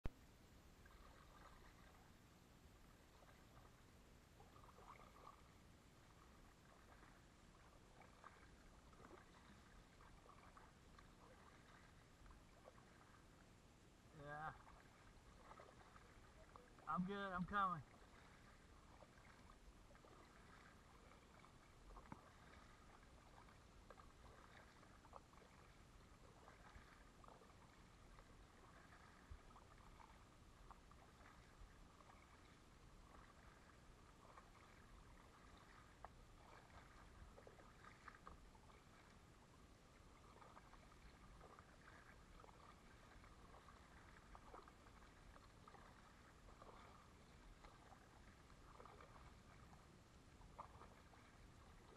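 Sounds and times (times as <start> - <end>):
paddle splashing in water: 0.8 - 51.9.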